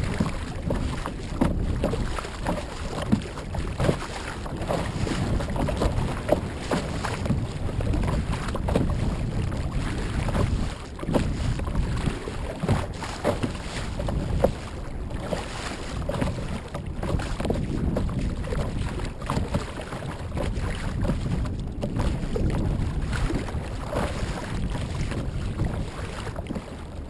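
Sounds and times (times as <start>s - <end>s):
paddle splashing: 0.0s - 27.0s
water sloshing against a kayak hull: 0.0s - 27.0s.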